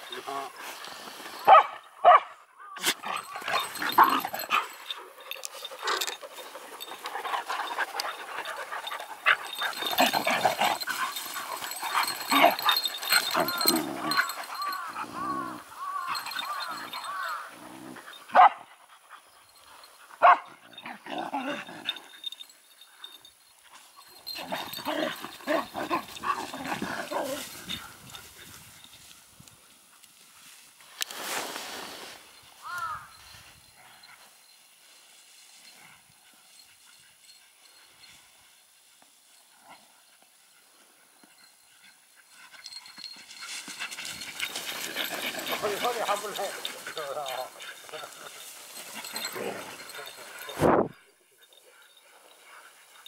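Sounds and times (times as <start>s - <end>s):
dogs play-fighting: 2.8s - 29.2s, 35.1s - 53.0s.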